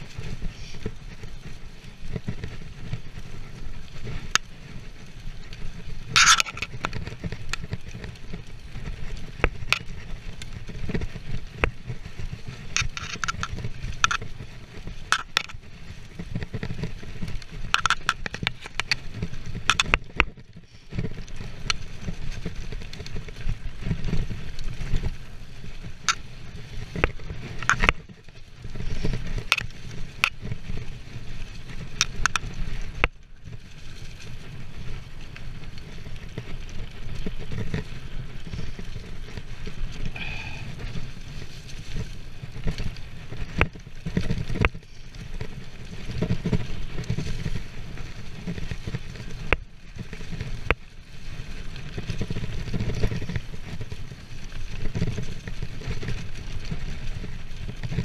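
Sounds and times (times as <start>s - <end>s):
bike clacking and rattling: 0.0s - 58.0s
tyres over dirt and dry leaves: 0.0s - 58.0s
wind rumbling on microphone: 0.0s - 58.0s.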